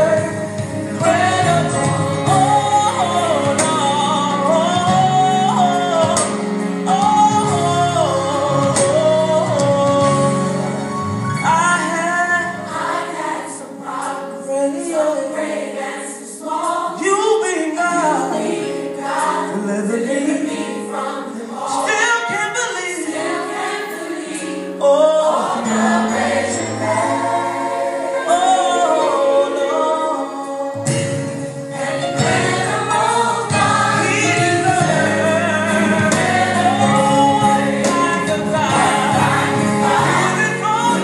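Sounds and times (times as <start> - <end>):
choir singing gospel song: 0.0 - 41.0
sustained instrumental backing: 0.0 - 41.0.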